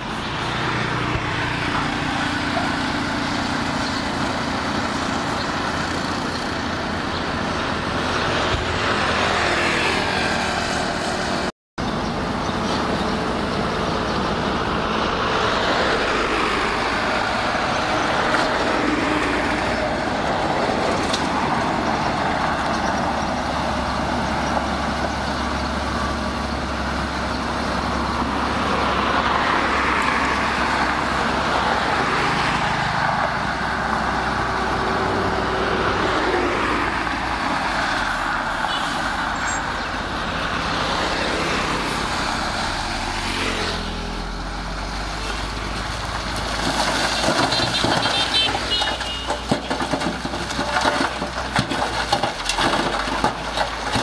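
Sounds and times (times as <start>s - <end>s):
diesel truck engine running: 0.0s - 54.0s
road traffic hum: 0.0s - 54.0s.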